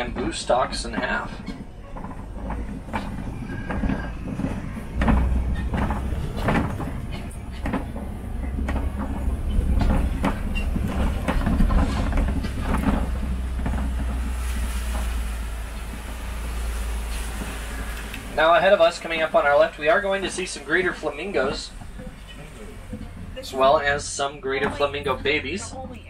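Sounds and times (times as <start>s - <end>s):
engine and road rumble: 0.0s - 26.0s
vehicle rattles and clunks: 0.0s - 26.0s.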